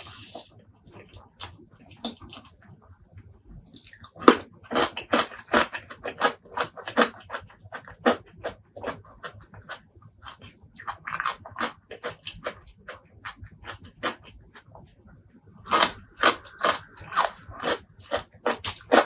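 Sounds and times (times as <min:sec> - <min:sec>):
wet chewing: 0:00.0 - 0:02.7, 0:03.7 - 0:19.0.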